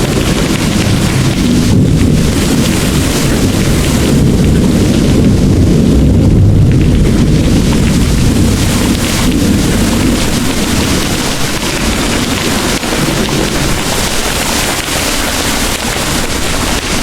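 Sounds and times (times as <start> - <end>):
heavy rain pouring: 0.0 - 17.0
thunder rumbling: 0.0 - 17.0.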